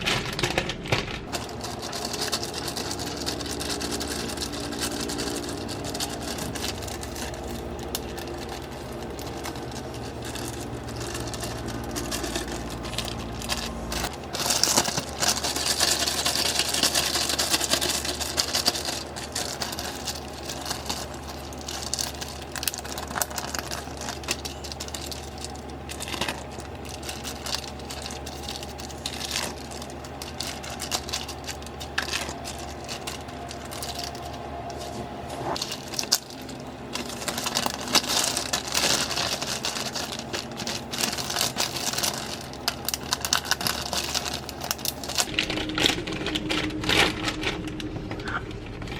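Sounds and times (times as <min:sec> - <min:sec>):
rustling and crinkling: 0:00.0 - 0:48.9.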